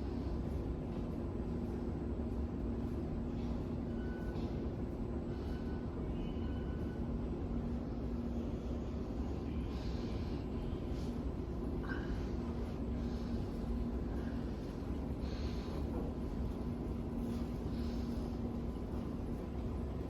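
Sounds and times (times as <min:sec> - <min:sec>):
constant low hum: 0:00.0 - 0:20.0
train rumbling: 0:00.0 - 0:20.0.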